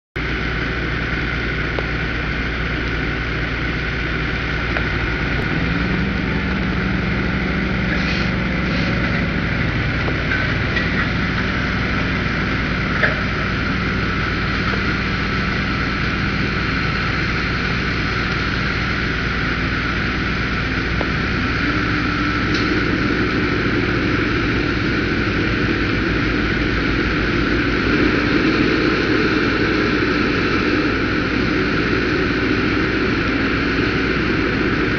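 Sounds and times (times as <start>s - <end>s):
heavy diesel engines running: 0.2s - 34.9s.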